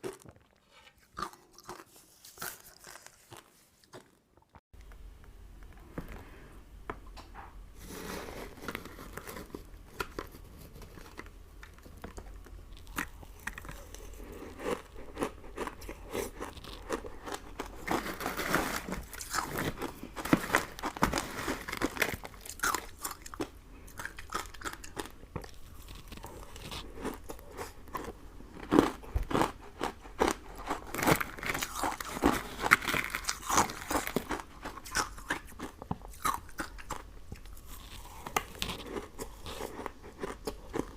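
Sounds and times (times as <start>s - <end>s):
crunchy chewing of sweets: 0.0s - 4.6s, 7.8s - 40.9s.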